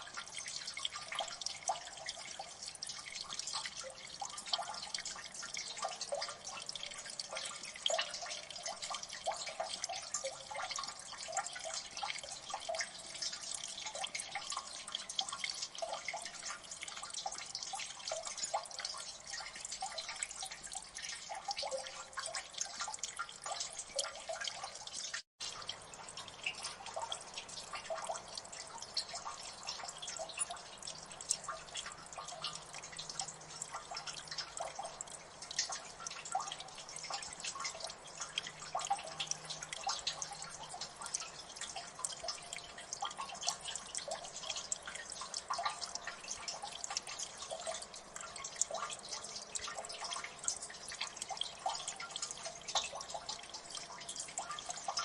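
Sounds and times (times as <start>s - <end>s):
water dripping: 0.0s - 55.0s.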